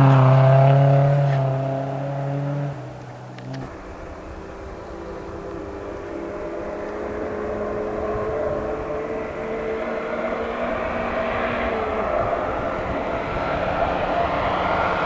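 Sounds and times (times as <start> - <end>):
rally car engine approaching: 0.0 - 15.0.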